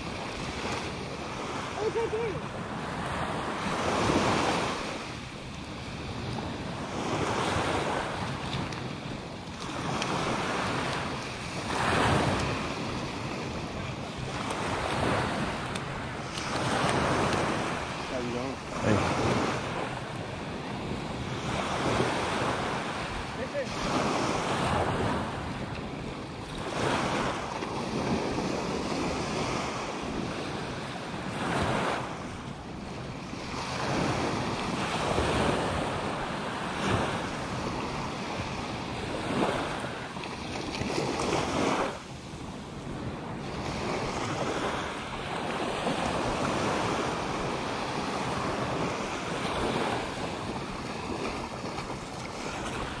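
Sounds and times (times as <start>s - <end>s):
surf breaking on sand: 0.0s - 32.4s, 33.1s - 53.0s
wind buffeting microphone: 0.0s - 53.0s.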